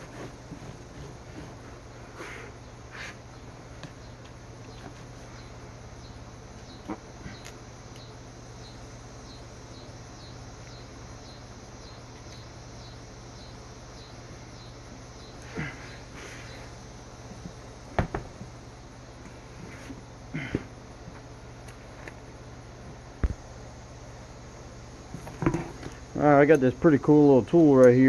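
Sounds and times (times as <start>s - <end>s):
cricket chirping: 0.0s - 28.0s
steady low hum: 0.0s - 28.0s.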